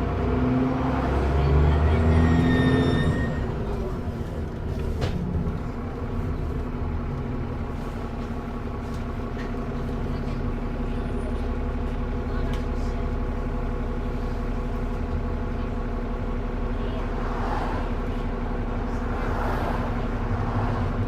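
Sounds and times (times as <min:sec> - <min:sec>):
bus diesel engine pulling: 0:00.0 - 0:21.0.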